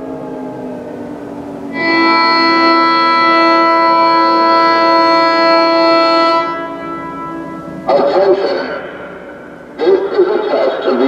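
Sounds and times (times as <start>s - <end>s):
electronic siren wail: 0.0s - 11.0s
steady siren alert tone: 0.0s - 11.0s.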